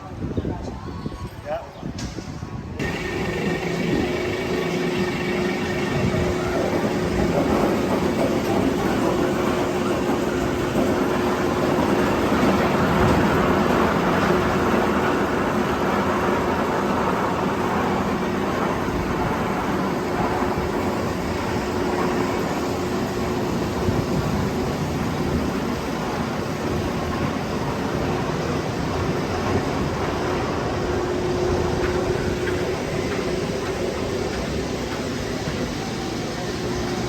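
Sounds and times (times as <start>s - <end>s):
vehicle or machinery hum: 2.8s - 37.0s.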